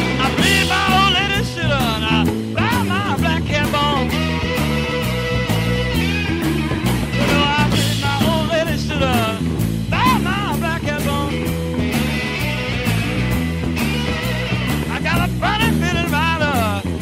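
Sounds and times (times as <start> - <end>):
bass line: 0.0 - 17.0
drum beats: 0.0 - 17.0
lead electric guitar bending notes: 0.0 - 17.0.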